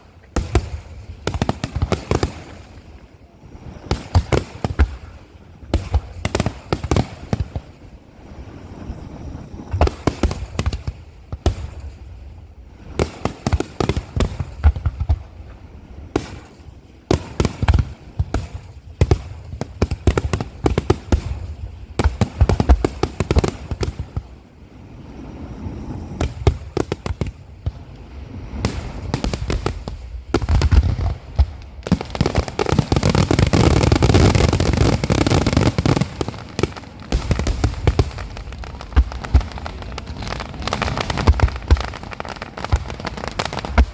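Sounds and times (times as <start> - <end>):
fireworks bursting: 0.0 - 43.9.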